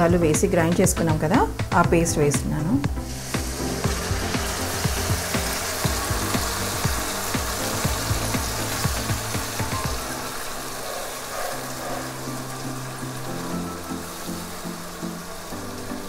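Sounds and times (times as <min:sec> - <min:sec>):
paste sizzling in oil: 0:02.8 - 0:16.0.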